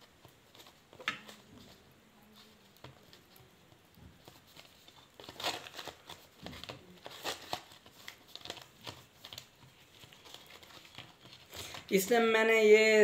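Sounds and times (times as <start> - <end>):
plastic wire leads crinkling: 0.0 - 12.1.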